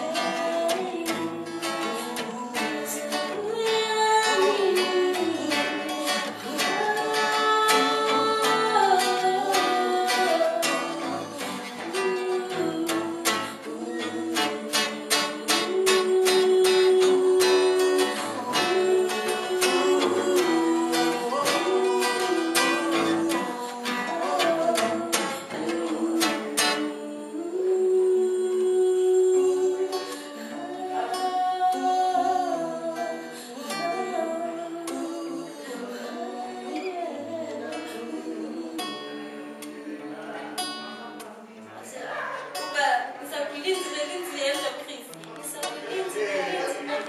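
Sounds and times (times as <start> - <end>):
person singing: 0.0 - 41.8
strummed acoustic guitar: 0.0 - 47.0.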